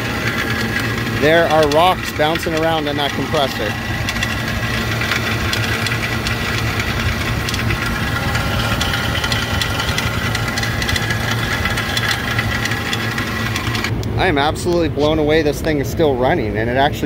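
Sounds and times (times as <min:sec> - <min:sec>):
compressor knocking rattle: 0:00.0 - 0:14.1
compressor humming: 0:00.0 - 0:17.0.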